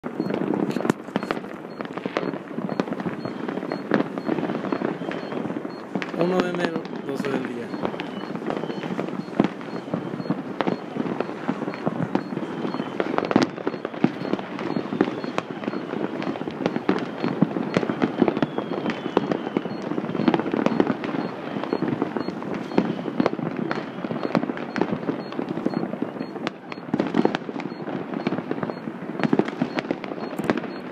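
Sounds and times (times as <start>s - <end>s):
fireworks crackling and banging: 0.0s - 30.9s.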